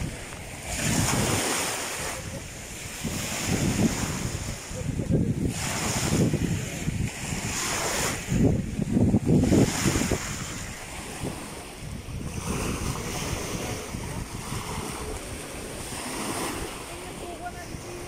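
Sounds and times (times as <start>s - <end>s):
lake waves washing: 0.0s - 18.0s
wind gusting across microphone: 0.0s - 18.0s.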